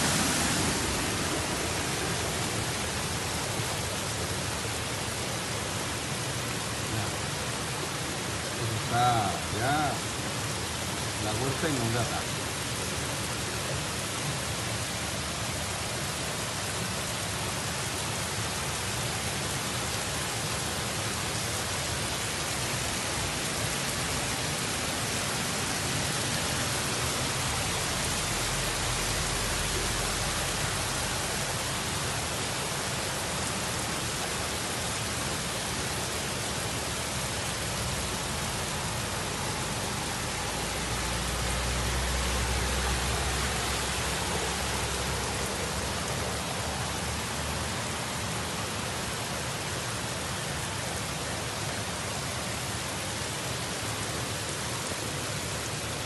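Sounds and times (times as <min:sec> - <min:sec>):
cars driving through water: 0:00.0 - 0:56.0
torrential rain hiss: 0:00.0 - 0:56.0.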